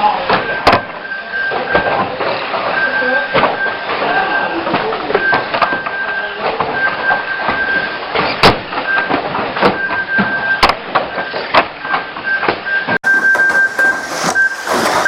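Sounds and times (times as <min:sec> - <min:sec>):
cars knocking together: 0:00.0 - 0:15.0.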